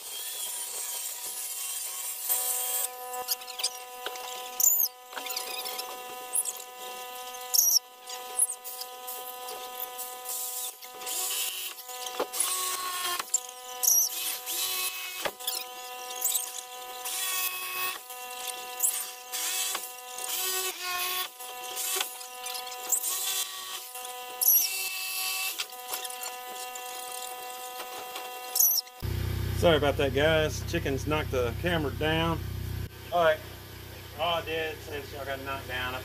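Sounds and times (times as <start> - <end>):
saw blade cutting plywood: 0.0 - 29.1.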